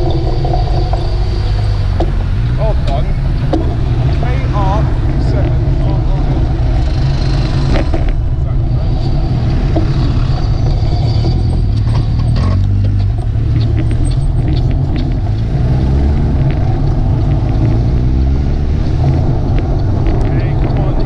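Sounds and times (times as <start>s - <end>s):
bicycle riding and traffic rumble: 0.0s - 21.0s
motor vehicle engine rising: 0.0s - 21.0s.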